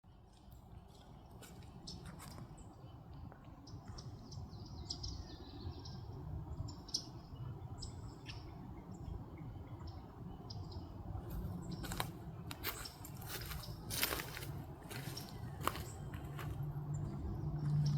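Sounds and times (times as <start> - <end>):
small birds chirping: 0.8 - 17.9.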